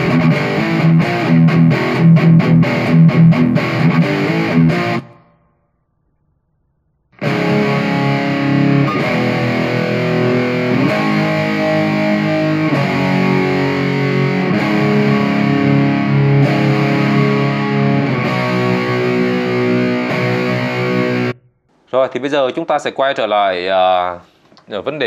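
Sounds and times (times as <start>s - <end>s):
distorted electric guitar chords: 0.0s - 5.6s, 7.2s - 21.7s.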